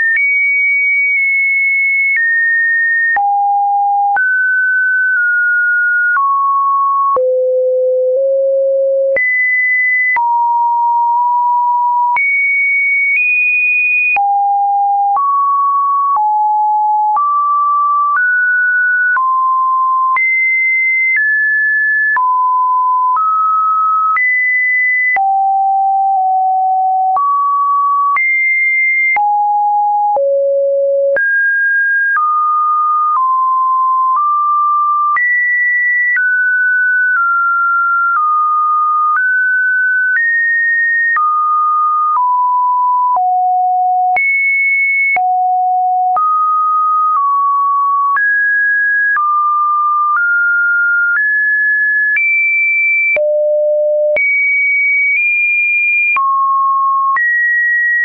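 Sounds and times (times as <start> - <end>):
sine wave test tones: 3.2 - 12.8, 14.2 - 24.4, 25.0 - 48.2, 51.8 - 54.5, 56.0 - 58.0.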